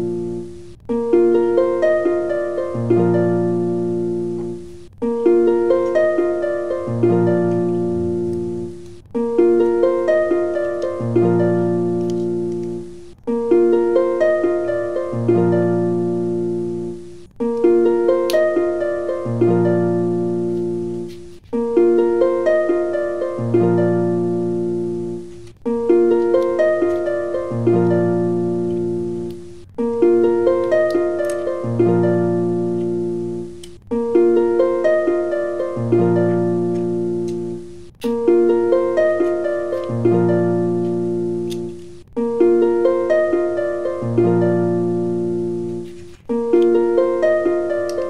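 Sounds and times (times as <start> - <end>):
plucked harp-like music loop: 0.0 - 48.0.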